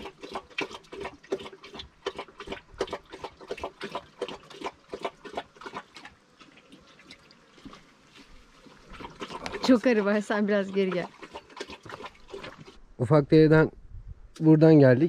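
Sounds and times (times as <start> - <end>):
dog lapping water: 0.0 - 12.8.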